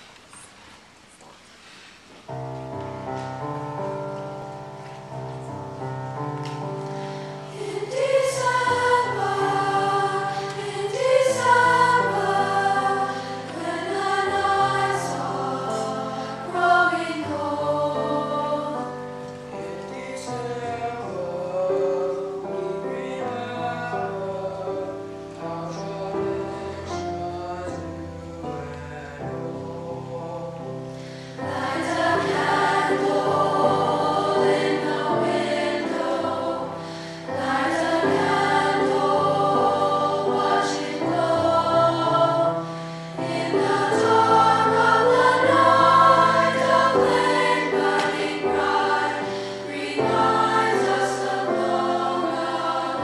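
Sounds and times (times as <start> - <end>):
choir singing: 7.0 - 30.6, 31.4 - 53.0.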